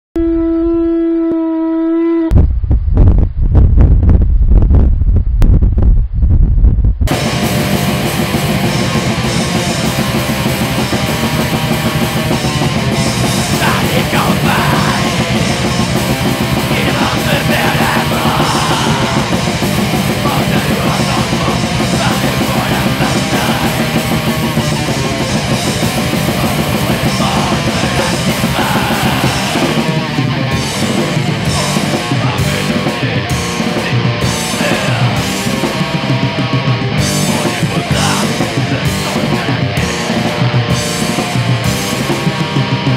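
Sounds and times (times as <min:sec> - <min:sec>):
distorted guitars: 0:00.2 - 0:42.9
fast dense drumming: 0:02.3 - 0:42.9
harsh yelled vocals: 0:07.2 - 0:42.0.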